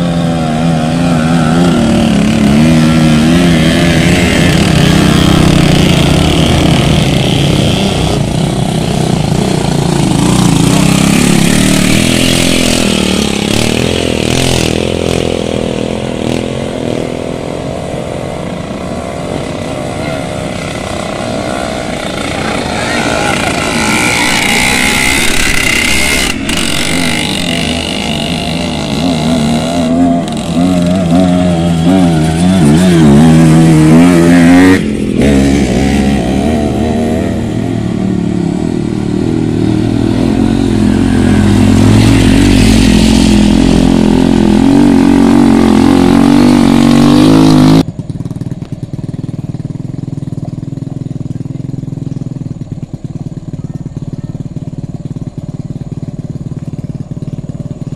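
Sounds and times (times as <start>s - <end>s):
motorcycle engines revving: 0.0s - 57.9s.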